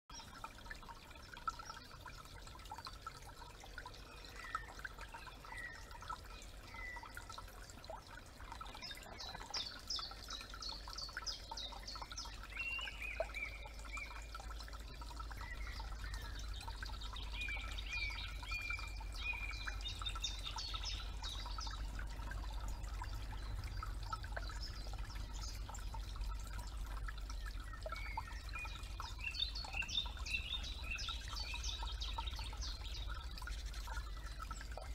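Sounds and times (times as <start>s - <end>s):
creek trickling: 0.1s - 34.9s
songbirds chirping: 0.1s - 34.9s.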